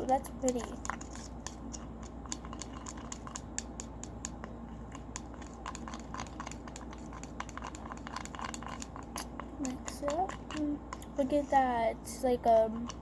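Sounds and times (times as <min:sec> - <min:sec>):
slime stirred in a bowl: 0:00.0 - 0:13.0.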